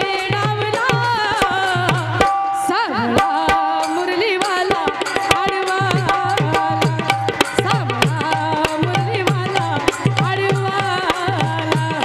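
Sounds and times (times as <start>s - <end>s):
hand drum rhythm: 0.0s - 12.0s
woman singing through microphone: 0.0s - 12.0s.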